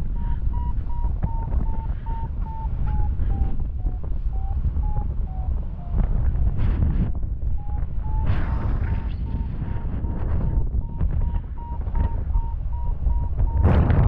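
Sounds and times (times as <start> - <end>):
variometer beeping: 0.0 - 13.9
wind rush on microphone: 0.0 - 14.0.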